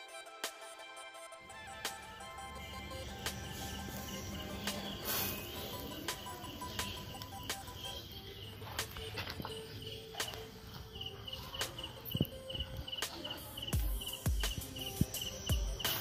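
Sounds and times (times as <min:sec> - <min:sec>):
cricket chirping: 0:01.6 - 0:16.0
charcoal popping and crackling: 0:03.0 - 0:16.0.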